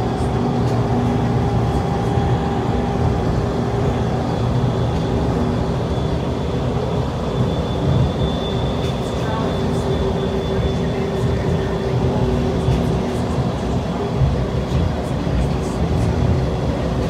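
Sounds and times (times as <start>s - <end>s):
train rumbling in motion: 0.0s - 17.0s.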